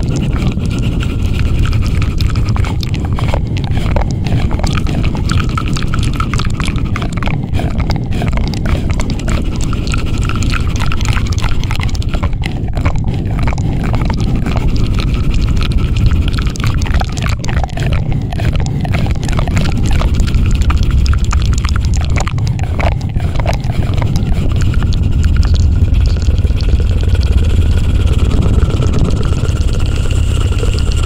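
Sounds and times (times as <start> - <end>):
loud steady rumble: 0.0 - 31.0
rapid crackling clicks: 0.0 - 31.0.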